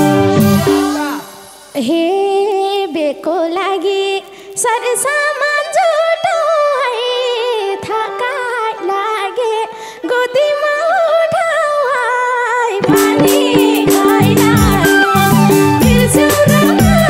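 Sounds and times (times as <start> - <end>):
woman singing: 0.5 - 17.0.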